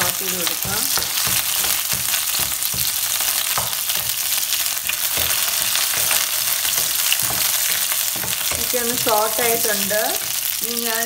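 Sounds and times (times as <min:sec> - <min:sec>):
leaves and chillies sizzling in oil: 0:00.0 - 0:11.0.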